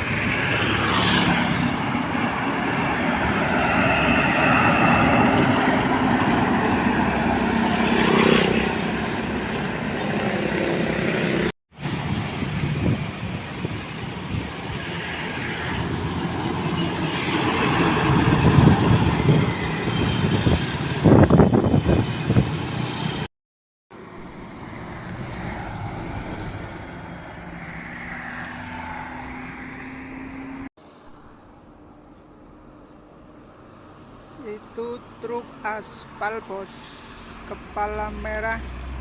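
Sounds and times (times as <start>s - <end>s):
heavy trucks driving past: 0.0s - 23.3s, 23.9s - 39.0s
passing traffic: 0.0s - 23.3s, 23.9s - 39.0s.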